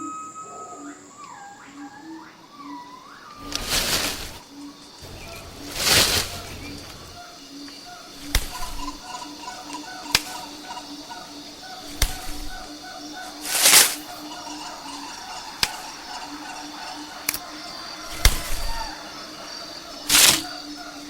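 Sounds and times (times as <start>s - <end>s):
chorus of pulsing calls: 0.0s - 21.0s.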